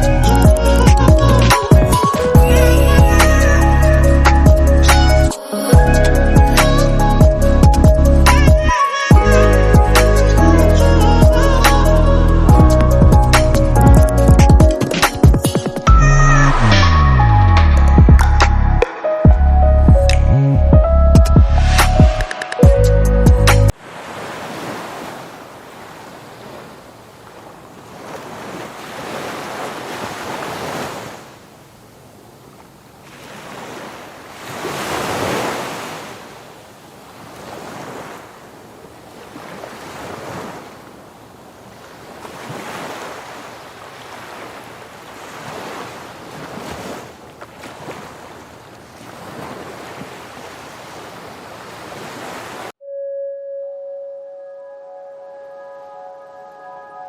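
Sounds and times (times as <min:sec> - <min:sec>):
sea waves washing ashore: 0:00.0 - 0:17.6, 0:23.6 - 0:52.8.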